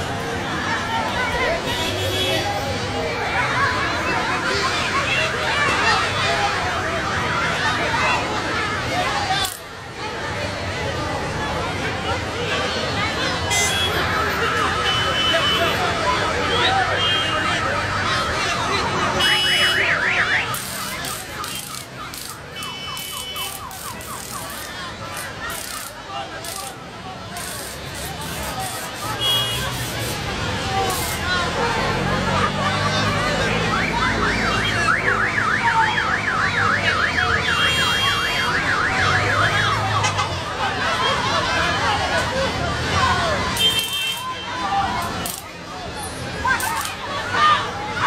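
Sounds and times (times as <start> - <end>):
street noise: 0.0 - 48.0.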